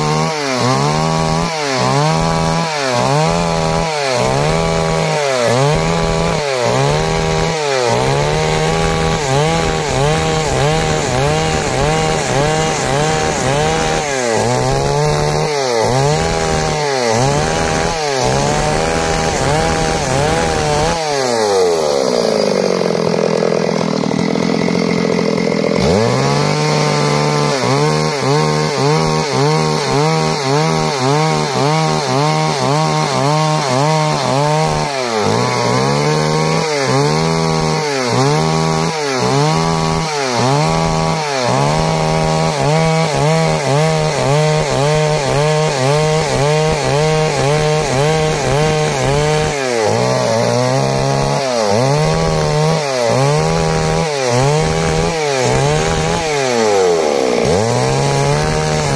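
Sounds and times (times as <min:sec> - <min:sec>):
chainsaw cutting through log: 0:00.0 - 0:58.9.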